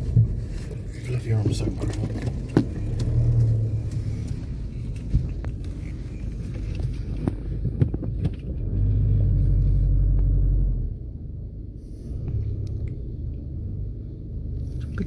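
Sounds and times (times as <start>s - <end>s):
low rumble of moving car: 0.0s - 15.0s.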